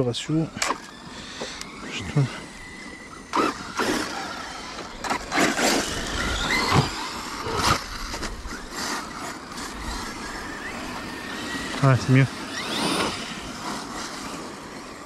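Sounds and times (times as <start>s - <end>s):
rc car motor whine: 0.0s - 15.0s.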